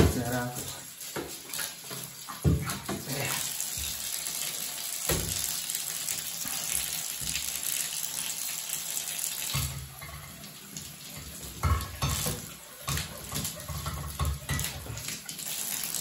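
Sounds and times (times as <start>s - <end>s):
water running into bathtub: 0.0s - 16.0s.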